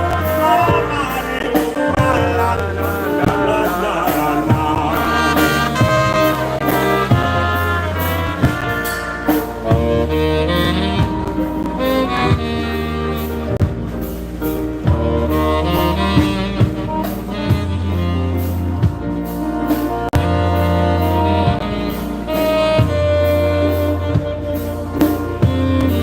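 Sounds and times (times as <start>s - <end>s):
brass lead: 0.0s - 26.0s
drums: 0.0s - 26.0s
polka band playing waltz: 0.0s - 26.0s
saxophone: 0.0s - 26.0s.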